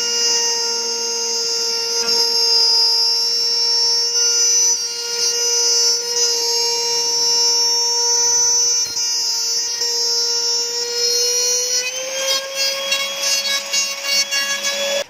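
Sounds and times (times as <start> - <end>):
router whining: 0.0 - 15.0.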